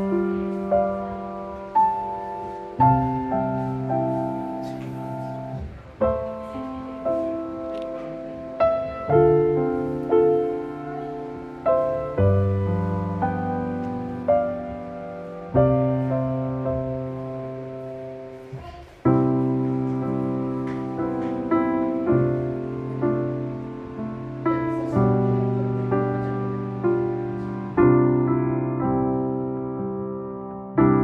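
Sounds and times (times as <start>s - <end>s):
slow solo piano: 0.0s - 31.0s.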